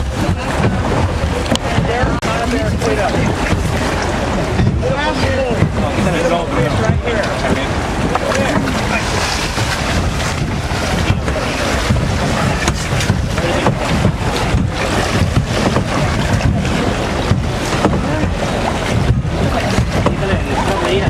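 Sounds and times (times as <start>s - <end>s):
water sloshing against hull: 0.0s - 21.0s
wind buffeting microphone: 0.0s - 21.0s.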